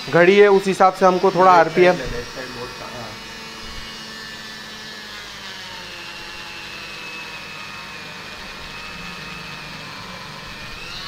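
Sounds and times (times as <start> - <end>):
rotary tool whine: 0.0 - 11.0.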